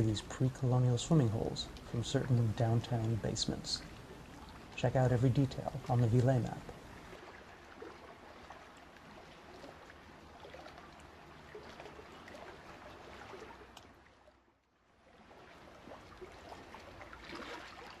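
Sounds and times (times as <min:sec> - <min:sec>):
faint trickling water: 0:00.0 - 0:18.0.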